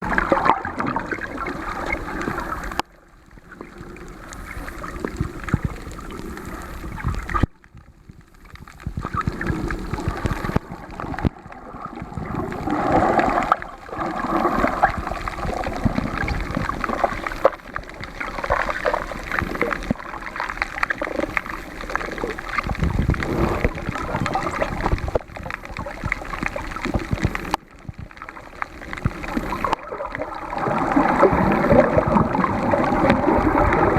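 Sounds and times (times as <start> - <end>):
water gurgling underwater: 0.0 - 33.9.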